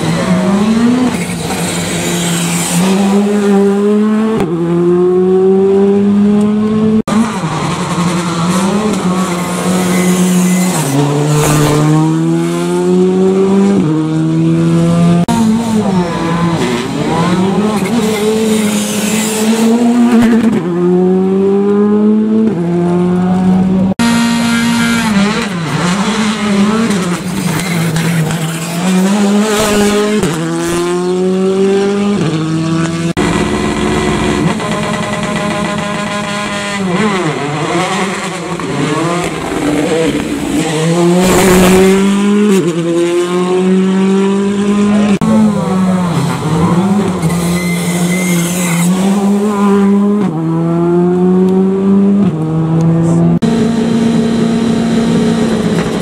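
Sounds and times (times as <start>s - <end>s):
rally cars accelerating hard: 0.0s - 56.0s.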